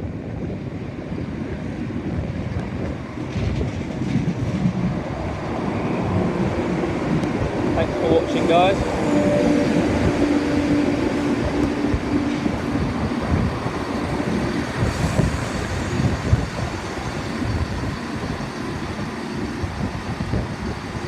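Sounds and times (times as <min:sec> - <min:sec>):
rail noise: 0:00.0 - 0:21.0
train hum: 0:00.0 - 0:21.0.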